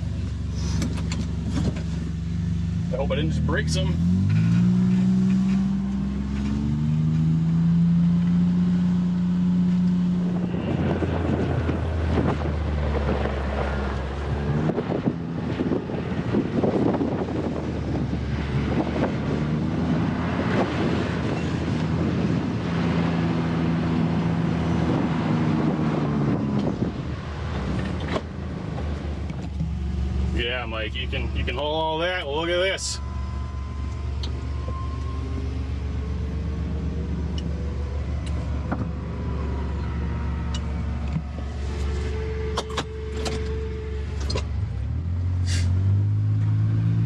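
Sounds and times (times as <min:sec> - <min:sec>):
heavy machinery engine: 0:00.0 - 0:47.0.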